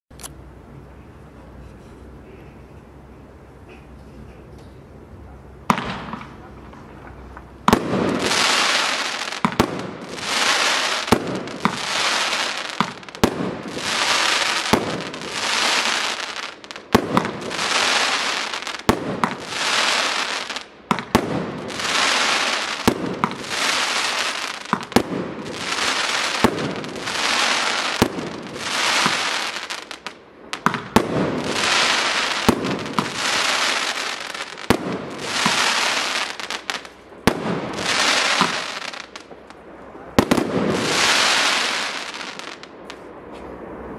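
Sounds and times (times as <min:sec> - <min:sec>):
firework stars crackling: 0:05.6 - 0:43.9.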